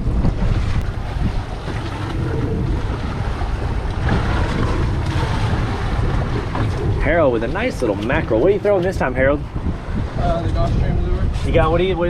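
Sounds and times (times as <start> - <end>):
sea water washing: 0.0 - 10.3
wind buffeting microphone: 0.0 - 12.0.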